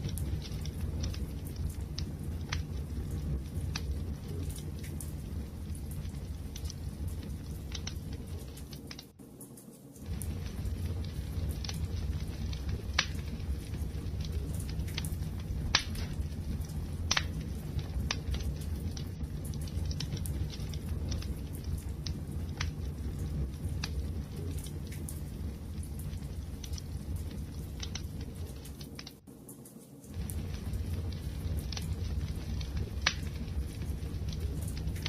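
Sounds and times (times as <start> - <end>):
crackles and pops of burning wood: 0.0 - 35.0
wood fire burning: 0.0 - 35.0.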